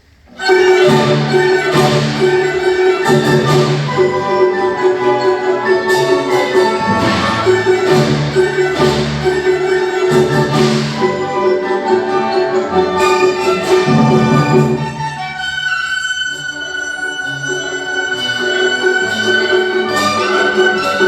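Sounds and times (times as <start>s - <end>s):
bowed strings: 0.3s - 21.0s
mallet percussion: 0.4s - 21.0s.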